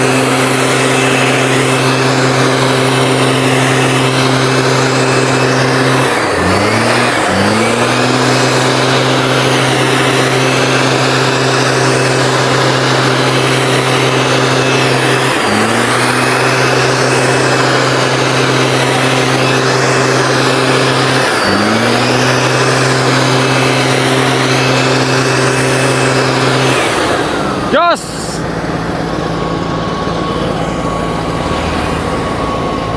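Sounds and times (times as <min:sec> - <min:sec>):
fan rushing air: 0:00.0 - 0:32.9
two-stroke engine revving: 0:00.0 - 0:32.9.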